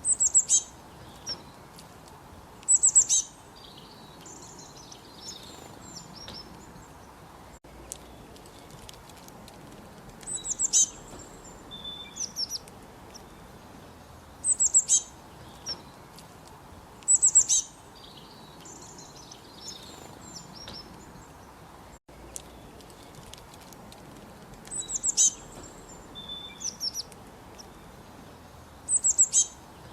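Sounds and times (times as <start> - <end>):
songbirds singing: 0.0 - 29.9.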